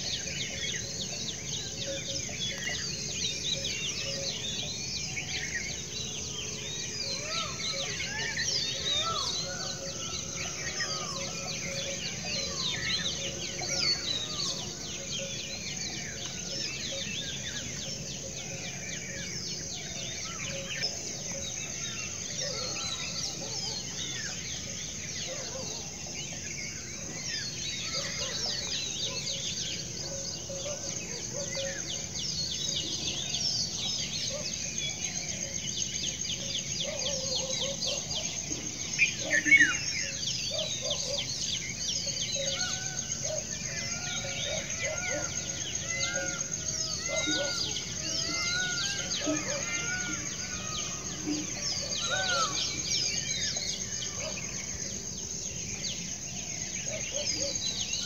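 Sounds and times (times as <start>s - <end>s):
birds chirping and calling: 0.0s - 58.0s.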